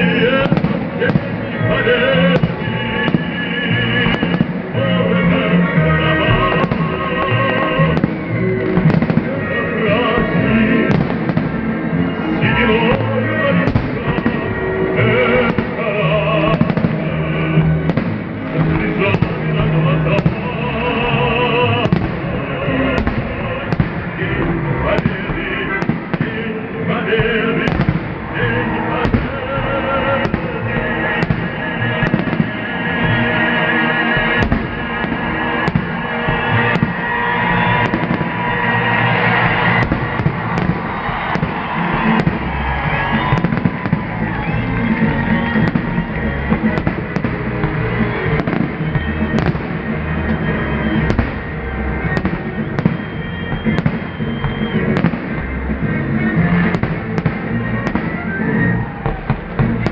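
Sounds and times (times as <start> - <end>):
fireworks bursting: 0.0 - 59.9
music playing: 0.0 - 59.9.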